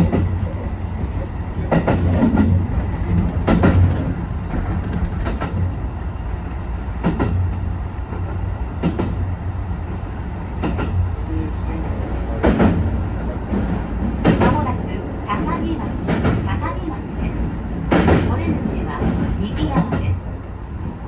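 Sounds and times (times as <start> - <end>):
train running with low hum: 0.0 - 21.0.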